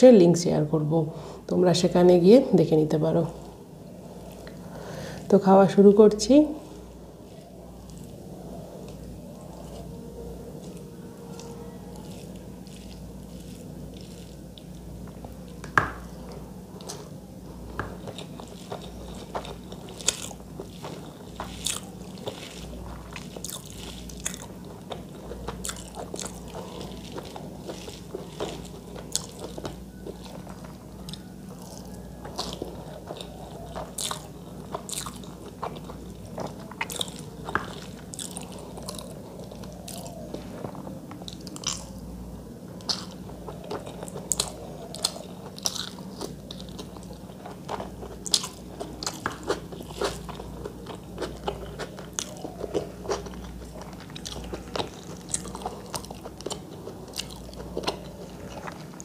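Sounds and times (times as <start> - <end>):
faint low hum: 0.0 - 59.0
person chewing and eating: 3.4 - 5.3, 6.6 - 59.0.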